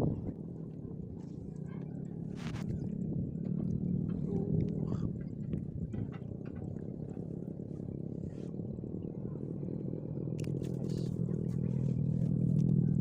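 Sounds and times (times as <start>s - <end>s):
vehicle engine rumbling: 0.0s - 8.5s, 10.4s - 13.0s.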